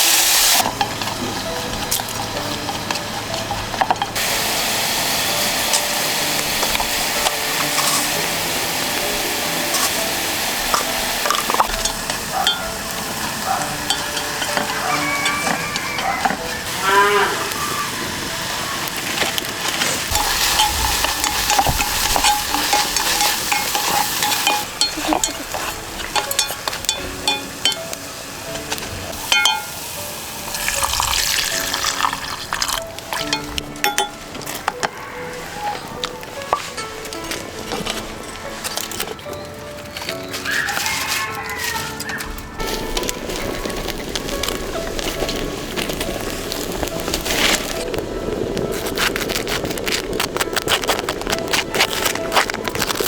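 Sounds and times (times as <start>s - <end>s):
food sizzling in a pan: 0.0s - 39.1s, 40.0s - 53.0s
steady hiss with scraping: 0.0s - 53.0s.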